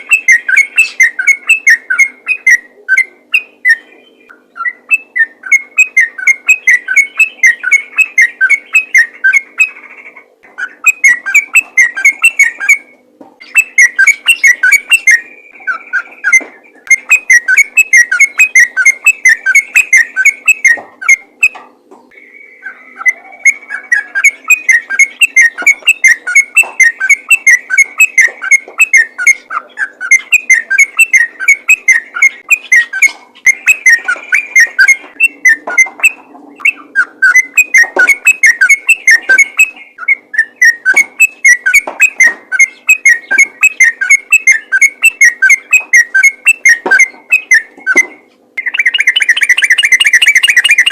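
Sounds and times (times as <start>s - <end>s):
bulbul singing: 0.0s - 50.9s.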